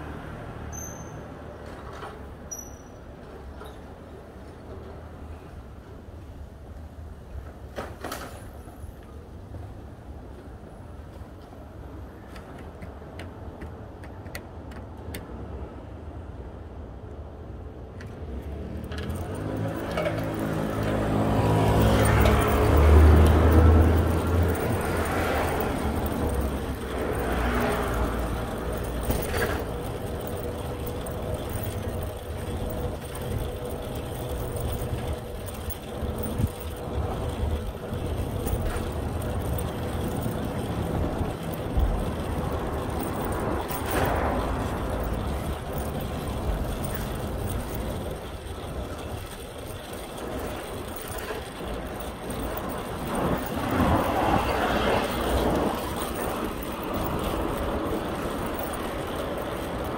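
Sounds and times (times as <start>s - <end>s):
low street rumble: 0.0s - 59.9s
traffic passing: 0.0s - 59.9s.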